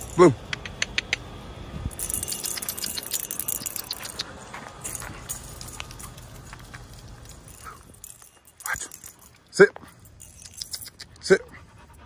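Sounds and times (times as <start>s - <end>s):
light metallic jingling: 0.0s - 0.4s, 1.9s - 12.0s.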